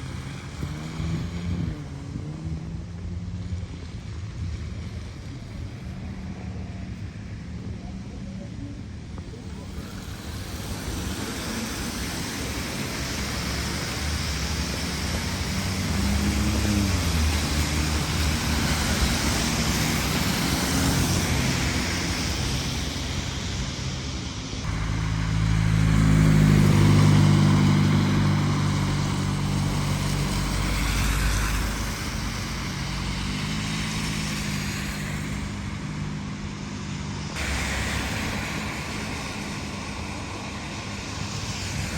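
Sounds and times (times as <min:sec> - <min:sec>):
vehicle engines running: 0:00.0 - 0:41.9.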